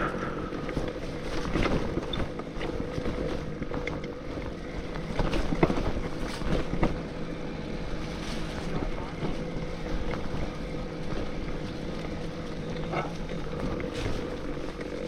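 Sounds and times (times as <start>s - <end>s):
bike knocks and rattles: 0.0s - 15.0s
electric bike motor whine: 0.0s - 15.0s.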